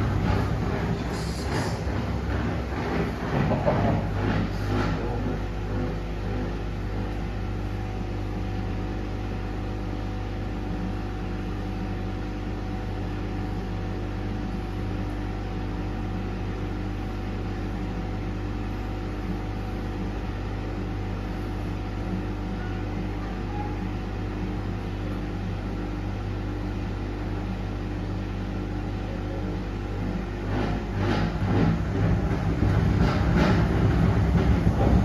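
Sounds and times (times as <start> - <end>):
washing machine hum: 0.0 - 35.0.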